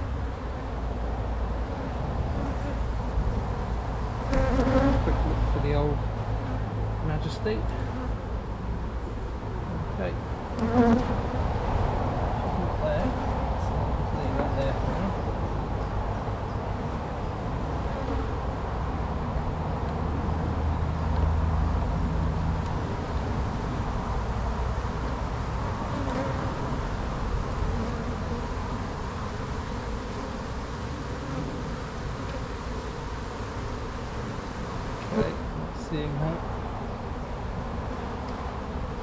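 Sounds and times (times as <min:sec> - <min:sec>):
bees buzzing: 0:00.0 - 0:11.4, 0:12.4 - 0:39.0.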